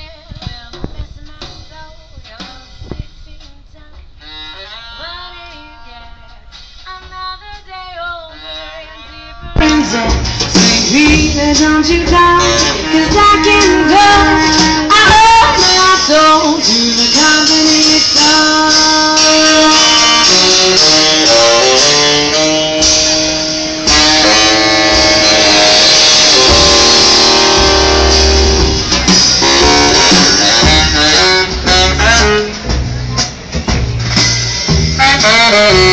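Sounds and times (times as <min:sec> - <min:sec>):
swing band playing: 0:00.0 - 0:35.9.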